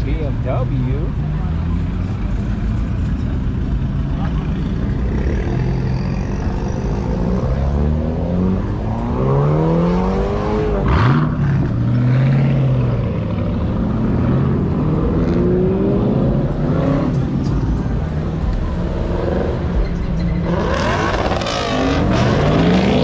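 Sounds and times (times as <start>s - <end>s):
car engine revving: 3.7s - 23.0s.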